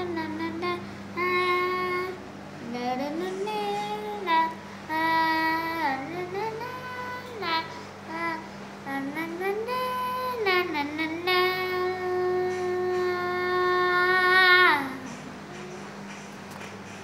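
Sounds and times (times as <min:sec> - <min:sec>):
child singing: 0:00.0 - 0:15.8.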